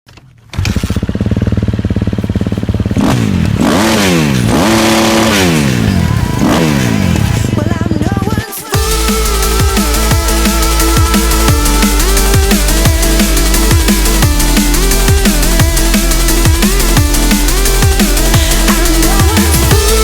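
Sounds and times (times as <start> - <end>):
dirt bike engine revving: 0.5 - 20.0.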